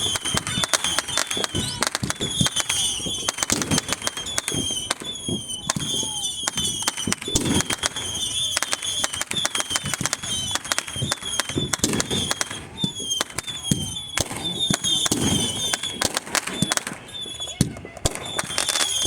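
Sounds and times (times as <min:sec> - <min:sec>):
fireworks cracks and booms: 0:00.0 - 0:19.0.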